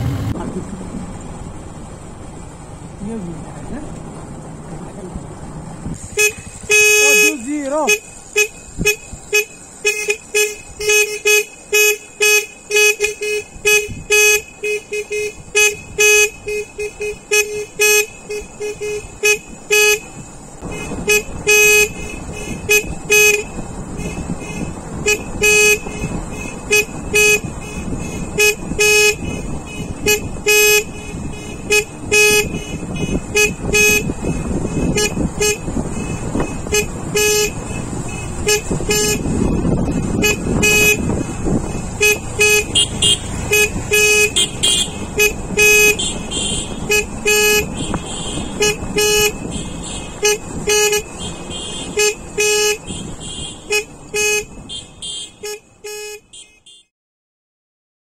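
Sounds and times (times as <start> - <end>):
motorcycle riding: 0.0 - 56.9
vehicle horn toots: 6.0 - 56.9.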